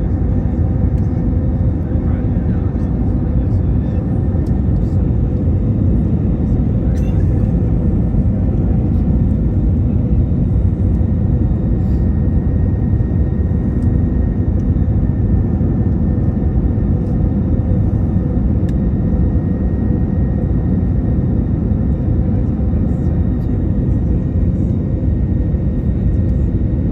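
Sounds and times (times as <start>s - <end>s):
faint engine whine: 0.0s - 26.9s
jet engine rumble: 0.0s - 26.9s.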